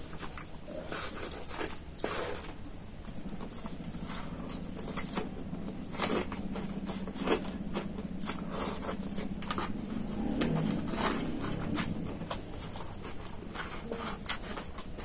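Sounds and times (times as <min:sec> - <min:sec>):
fingers scraping foam box: 0:00.0 - 0:15.0
steady low hum: 0:00.0 - 0:15.0.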